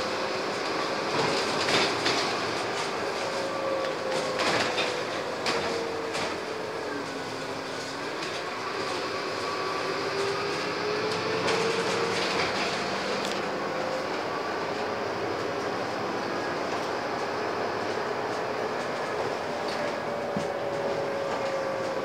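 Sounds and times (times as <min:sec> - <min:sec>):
bus engine whine: 0:00.0 - 0:22.0.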